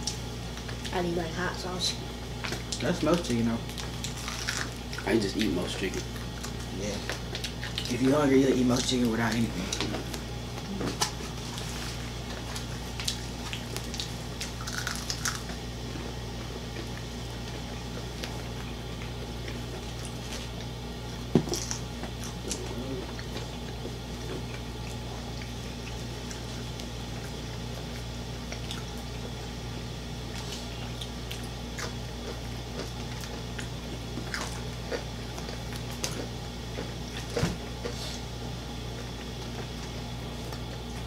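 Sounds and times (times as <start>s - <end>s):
steady low hum: 0.0s - 41.0s
wet chewing: 3.6s - 15.7s, 16.7s - 29.5s, 30.2s - 41.0s.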